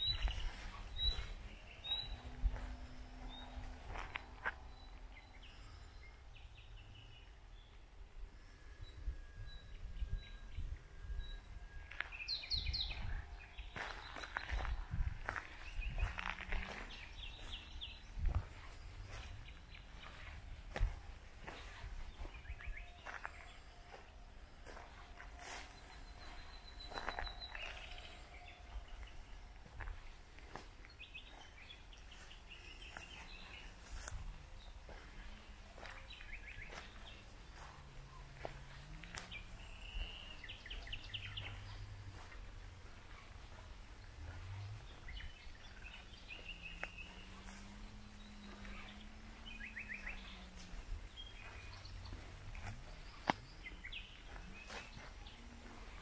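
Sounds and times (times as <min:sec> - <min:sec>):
soft footsteps in grass: 0:00.0 - 0:05.6, 0:11.8 - 0:56.0
bird chirps: 0:00.0 - 0:07.8, 0:08.6 - 0:56.0
steady low rumble: 0:00.0 - 0:56.0.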